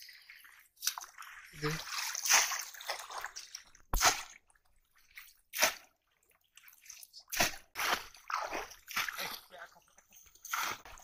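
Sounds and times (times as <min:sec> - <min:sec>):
water splashes and drips: 0:00.0 - 0:11.0.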